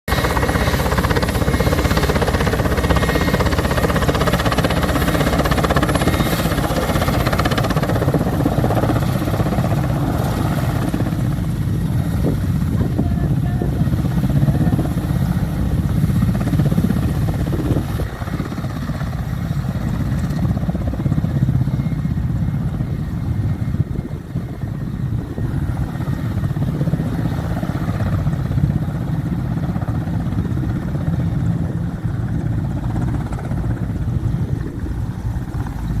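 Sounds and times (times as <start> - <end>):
aircraft engine drone: 0.1 - 36.0.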